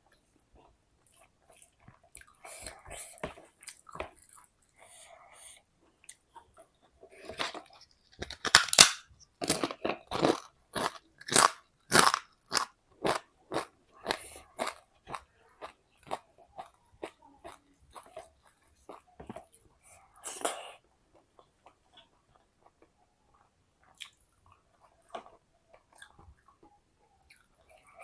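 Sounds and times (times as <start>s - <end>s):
chewing crunchy food: 0.1s - 4.9s, 5.8s - 28.0s.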